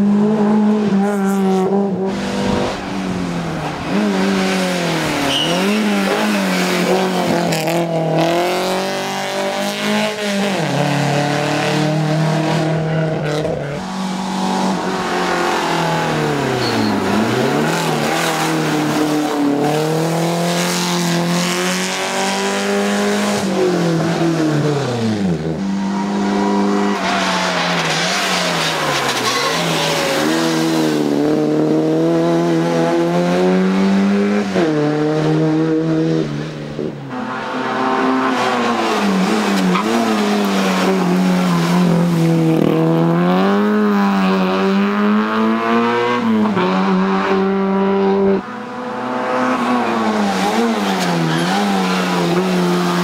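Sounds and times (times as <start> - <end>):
rally car engines revving: 0.0 - 53.0.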